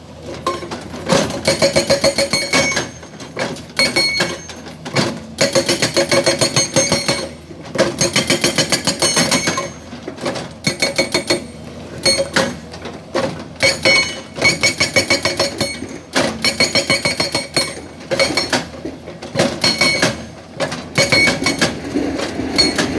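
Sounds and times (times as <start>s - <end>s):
hydraulic rock breaker hammering: 0.4s - 22.9s.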